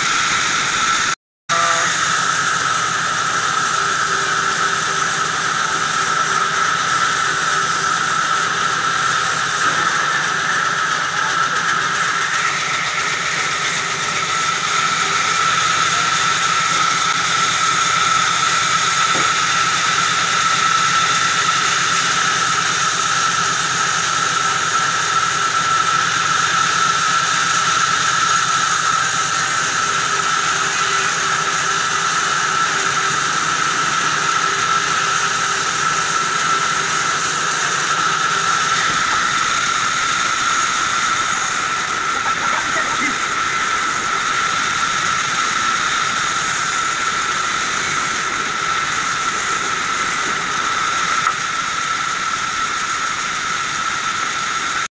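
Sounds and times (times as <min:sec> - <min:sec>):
low machine hum: 0:00.0 - 0:54.8
band saw cutting log: 0:00.0 - 0:54.9
high blade whine: 0:00.0 - 0:54.9.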